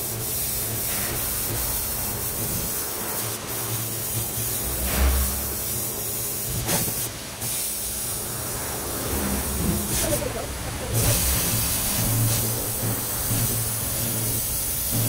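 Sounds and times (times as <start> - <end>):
low machine hum: 0.0 - 15.0
pressure washer jet hissing: 0.0 - 15.0.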